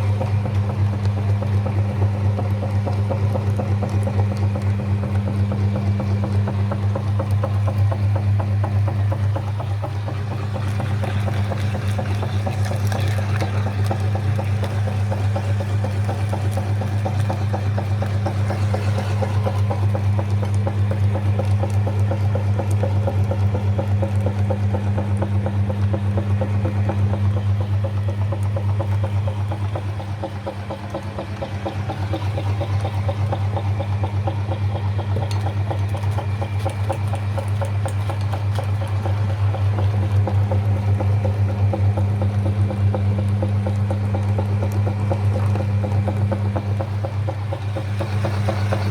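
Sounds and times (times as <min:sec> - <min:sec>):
fast mechanical ticking: 0:00.0 - 0:48.9
meat grinder motor humming: 0:00.0 - 0:48.9.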